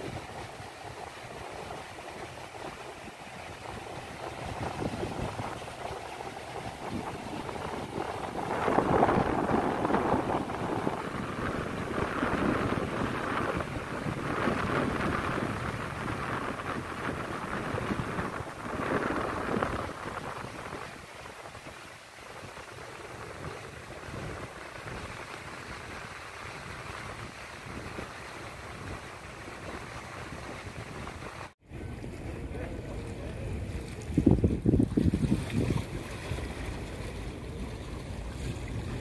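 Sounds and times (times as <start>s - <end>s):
small waves washing on beach: 0.0s - 39.0s
wind buffeting microphone: 0.0s - 39.0s.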